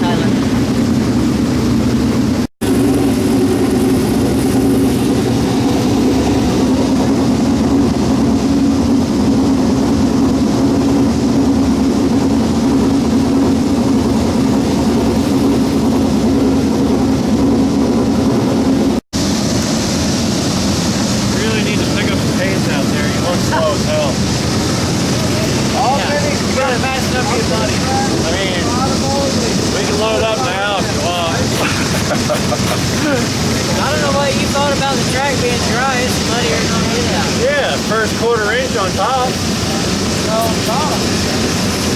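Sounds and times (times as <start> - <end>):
race car engines running: 0.0 - 41.9.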